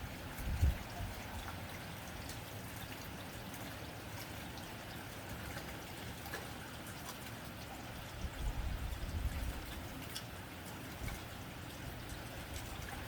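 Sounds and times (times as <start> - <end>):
rain on a tin roof: 0.0 - 13.0.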